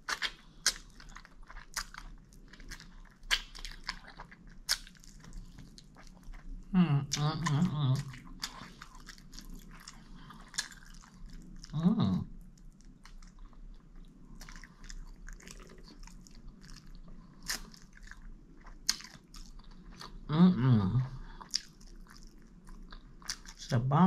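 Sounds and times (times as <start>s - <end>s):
person chewing: 0.0s - 23.6s.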